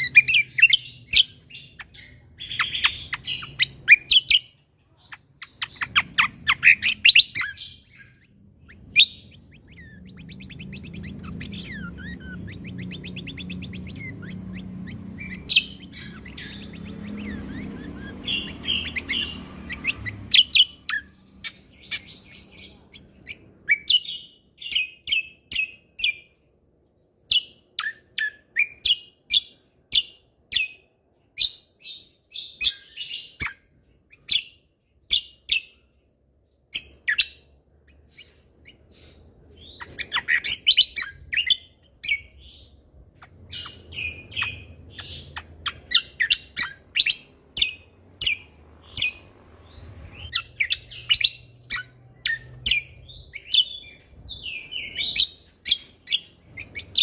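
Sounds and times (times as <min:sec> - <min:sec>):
songbird singing rapid chirps: 0:00.0 - 0:57.0.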